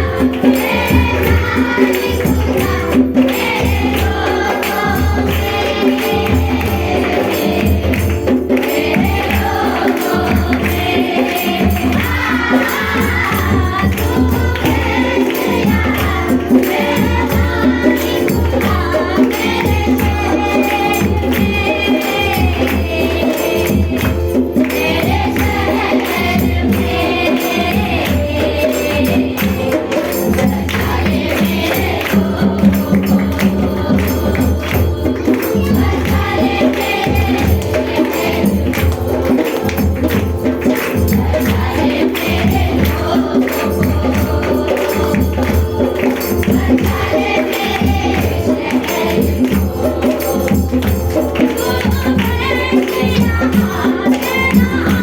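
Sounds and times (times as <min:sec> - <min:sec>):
group singing worship song: 0:00.0 - 0:55.0
rhythmic percussion: 0:00.0 - 0:55.0
tambourine beat: 0:00.0 - 0:55.0.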